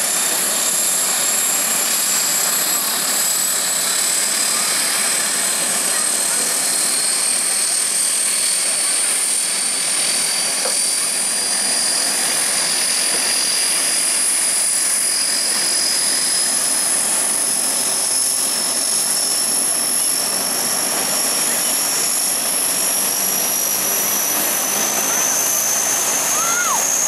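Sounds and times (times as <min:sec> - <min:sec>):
turboprop engines running: 0:00.0 - 0:27.0.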